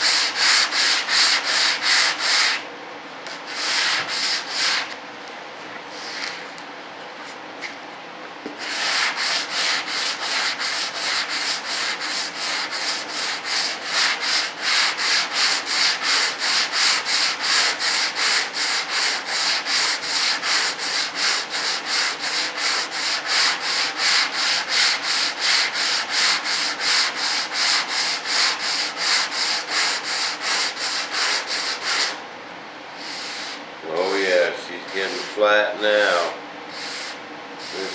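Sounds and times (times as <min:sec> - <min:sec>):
sandpaper sanding strokes: 0:00.0 - 0:02.6, 0:03.3 - 0:05.0, 0:08.6 - 0:32.2, 0:33.0 - 0:35.4, 0:36.1 - 0:37.9.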